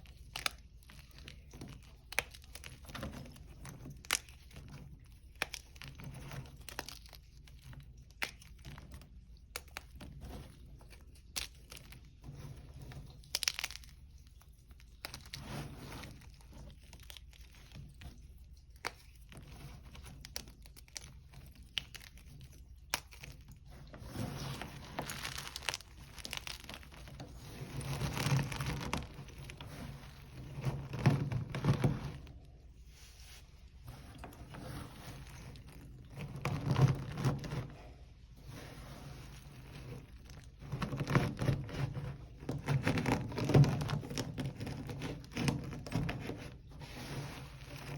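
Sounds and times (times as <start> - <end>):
chalk cracking and crunching: 0.0 - 47.9.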